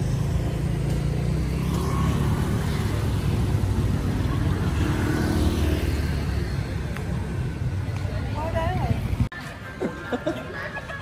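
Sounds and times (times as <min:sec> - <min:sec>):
motorbike passing: 0:00.0 - 0:10.0
low traffic rumble: 0:00.0 - 0:11.0.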